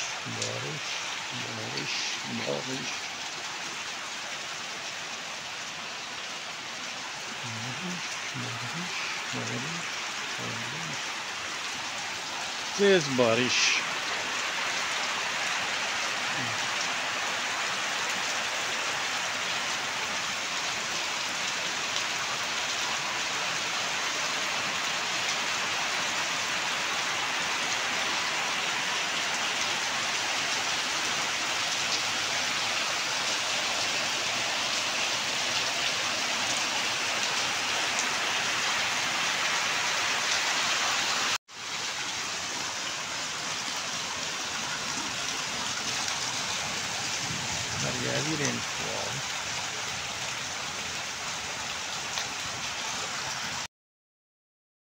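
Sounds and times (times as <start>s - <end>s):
heavy rain on stone paving: 0.0s - 53.7s.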